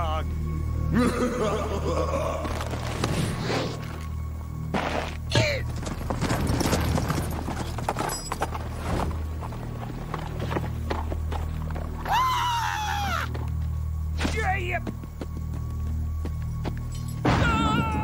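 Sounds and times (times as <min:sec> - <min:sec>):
low background music: 0:00.0 - 0:18.0.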